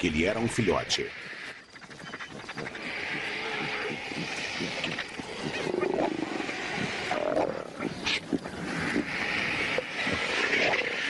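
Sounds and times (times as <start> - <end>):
animals calling: 0.0 - 11.0
animals scuffling: 0.0 - 11.0.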